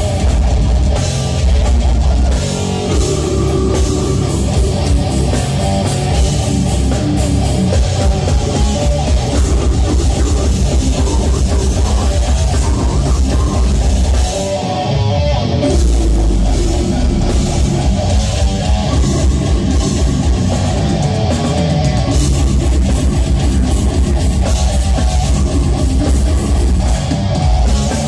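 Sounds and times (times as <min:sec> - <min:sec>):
heavy metal band playing: 0:00.0 - 0:28.0.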